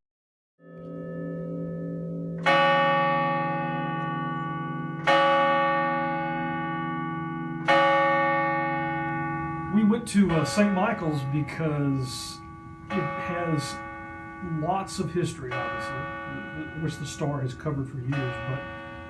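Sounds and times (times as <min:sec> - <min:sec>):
church bell tolling: 0:00.6 - 0:19.0.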